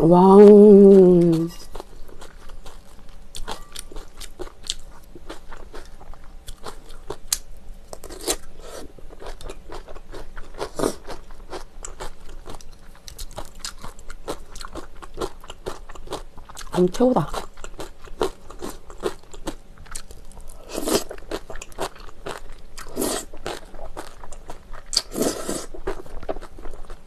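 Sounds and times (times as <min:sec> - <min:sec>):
wet chewing and crunching: 0:00.5 - 0:27.0.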